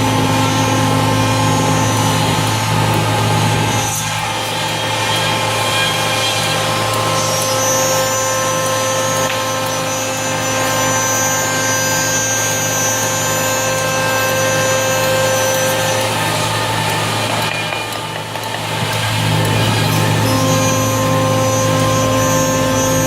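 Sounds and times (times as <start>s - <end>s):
router spindle routing wood: 0.0s - 23.0s.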